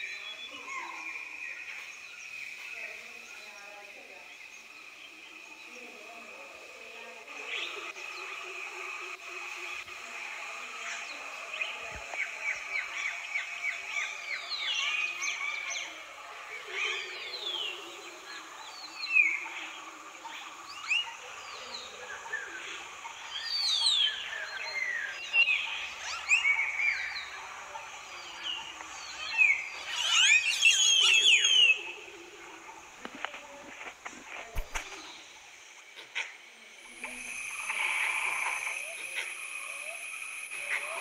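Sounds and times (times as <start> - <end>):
faint steady high drone: 0.0 - 41.0
forest birds singing and calling: 0.0 - 41.0.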